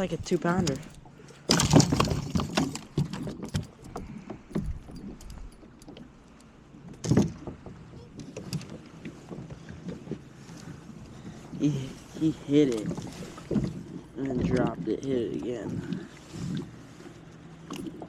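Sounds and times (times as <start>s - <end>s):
knocks and clatter on boat: 0.0s - 18.0s.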